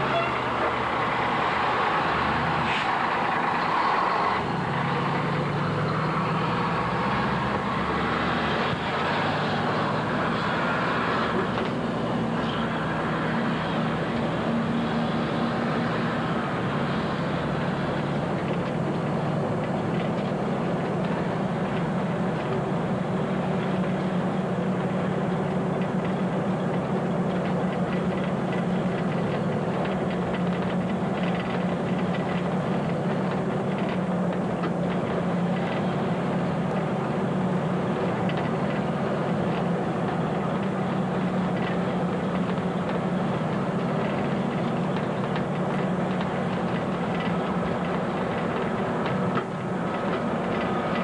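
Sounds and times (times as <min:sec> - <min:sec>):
truck engine running: 0:00.0 - 0:51.0.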